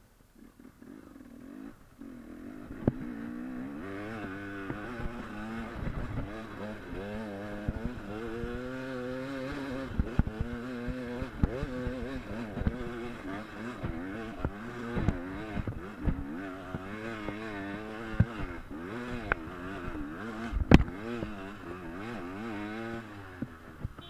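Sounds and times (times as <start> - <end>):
dirt bike engine revving: 0.4 - 24.0.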